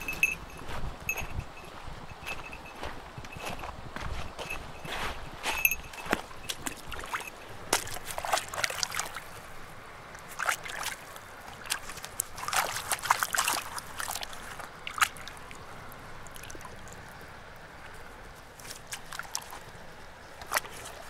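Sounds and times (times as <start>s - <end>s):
stream trickling: 0.0s - 21.0s.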